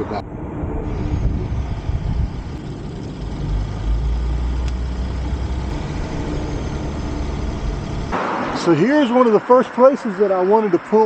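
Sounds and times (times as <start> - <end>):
van engine and road rumble: 0.0 - 11.0.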